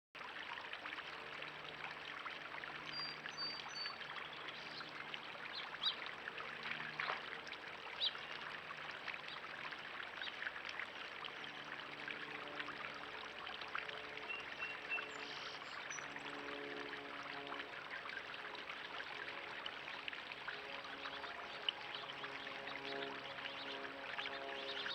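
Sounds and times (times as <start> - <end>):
water trickling into pond: 0.2 - 24.9
low hum: 1.0 - 24.9.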